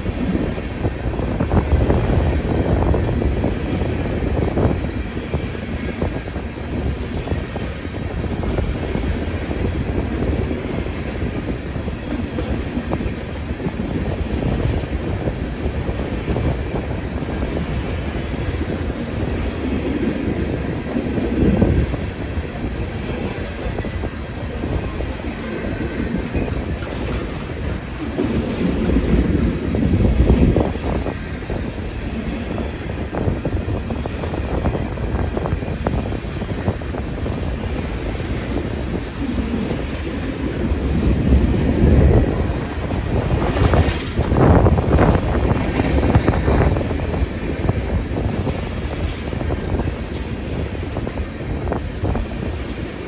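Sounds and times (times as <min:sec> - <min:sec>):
train wheels rumbling on track: 0:00.0 - 0:53.0.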